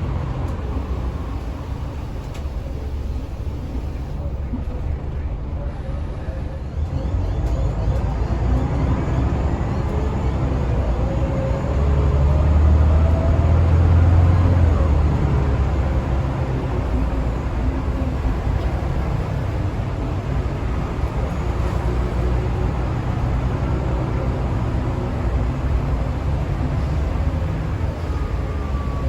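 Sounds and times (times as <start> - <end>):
bus engine running under load: 0.0 - 29.0.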